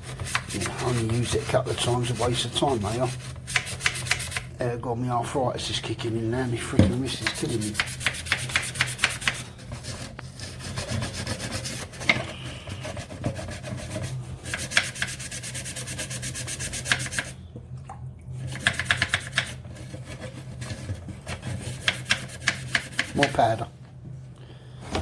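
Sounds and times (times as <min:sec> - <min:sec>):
toothbrush scrubbing plastic: 0:00.0 - 0:04.5, 0:06.8 - 0:17.4, 0:18.4 - 0:23.6.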